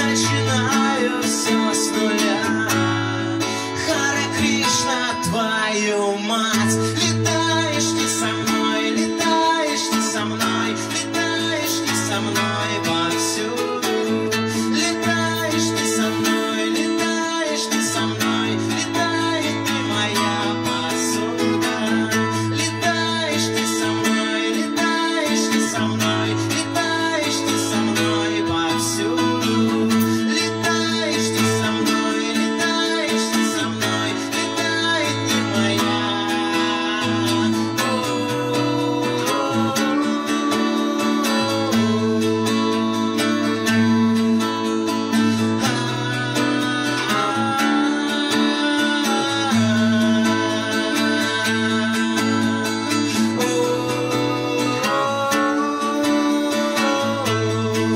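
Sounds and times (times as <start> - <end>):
strummed acoustic guitar: 0.0 - 57.9.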